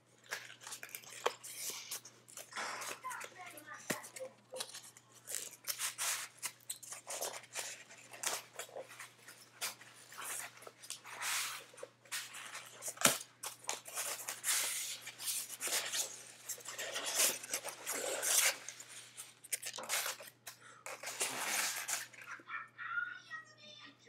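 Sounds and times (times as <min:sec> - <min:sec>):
packaging rustling and tearing: 0:00.1 - 0:22.4.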